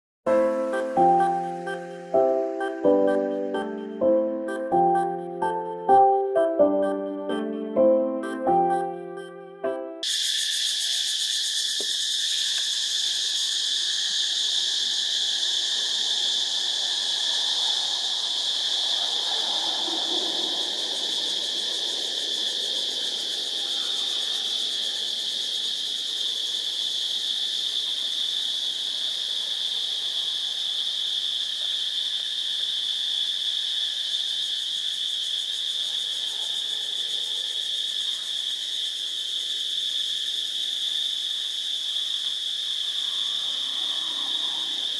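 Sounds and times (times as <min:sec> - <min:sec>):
high-pitched insect drone: 0:00.3 - 0:44.9.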